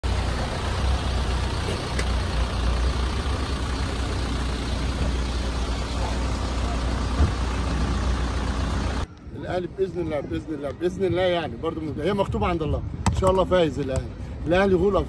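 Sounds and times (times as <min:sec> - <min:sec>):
road vehicles rumbling: 0:00.0 - 0:15.0.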